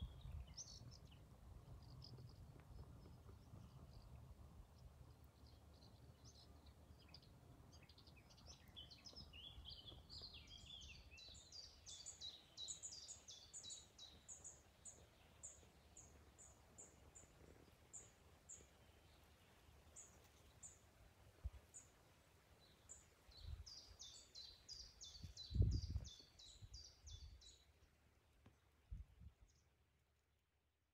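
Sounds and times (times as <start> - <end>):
songbird chirping: 0.0 - 30.4.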